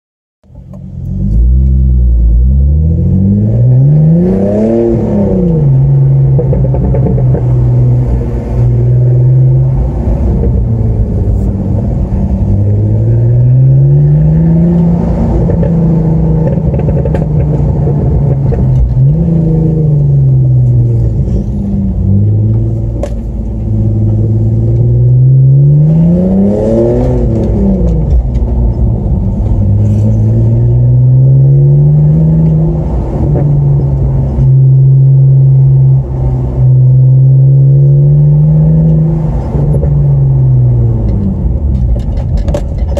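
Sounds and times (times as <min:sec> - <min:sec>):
car engine accelerating: 0:00.4 - 0:42.9.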